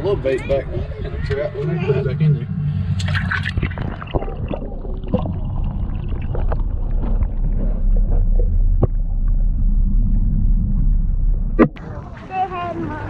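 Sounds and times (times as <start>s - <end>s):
low underwater rumble: 0.0s - 13.0s.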